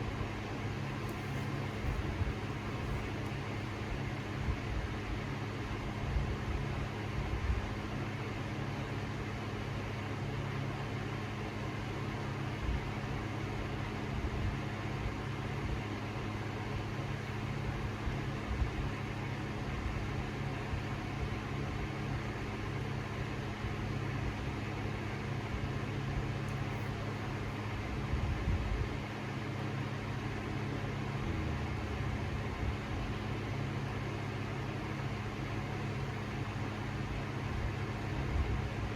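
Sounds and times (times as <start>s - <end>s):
rush of air from fan blades: 0.0s - 9.7s, 10.4s - 38.9s
ceiling fan motor hum: 0.0s - 38.9s.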